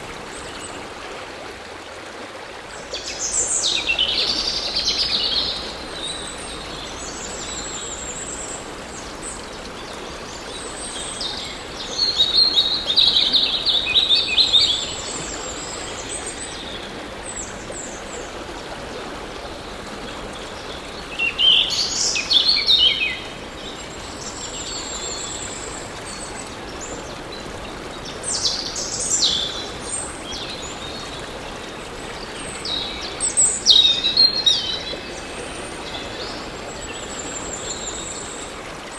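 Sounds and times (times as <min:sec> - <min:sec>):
flowing water: 0:00.0 - 0:38.9
songbirds singing: 0:02.8 - 0:38.9.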